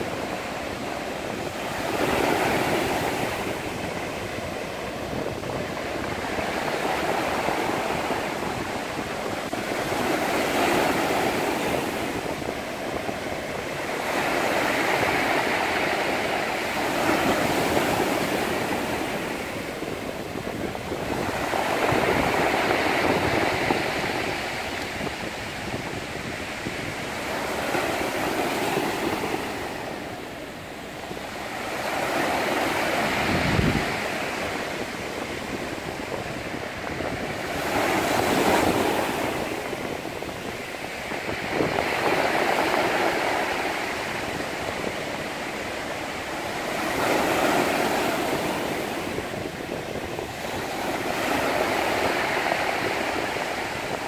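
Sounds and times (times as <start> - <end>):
sea waves breaking: 0.0 - 54.0.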